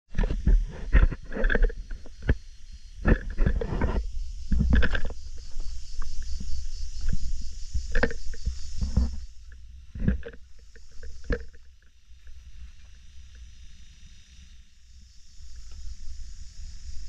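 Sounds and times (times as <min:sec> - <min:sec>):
wind rumbling on microphone: 0:00.1 - 0:14.1.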